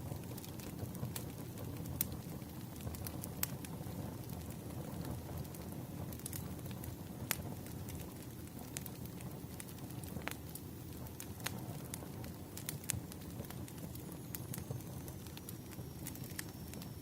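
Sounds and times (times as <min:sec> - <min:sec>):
low rumble of burning logs: 0:00.0 - 0:17.0
wood fire crackling: 0:00.0 - 0:17.0.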